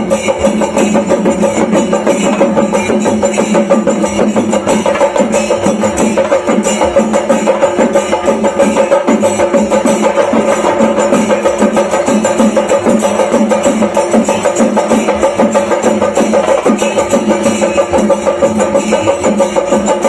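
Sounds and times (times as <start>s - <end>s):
drums beaten fast with sticks: 0.0s - 20.0s.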